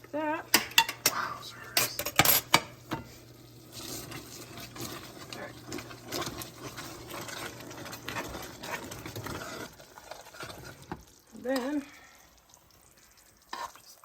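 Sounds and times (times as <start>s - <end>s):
gravy bubbling and popping: 2.5s - 14.0s.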